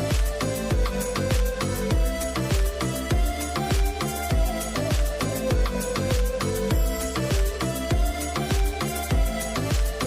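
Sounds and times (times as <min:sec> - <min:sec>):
deep kick drum: 0:00.0 - 0:10.0.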